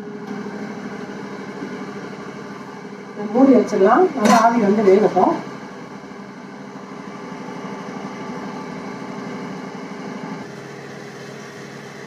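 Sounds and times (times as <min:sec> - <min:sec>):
steamer humming buzz: 0:00.0 - 0:12.0.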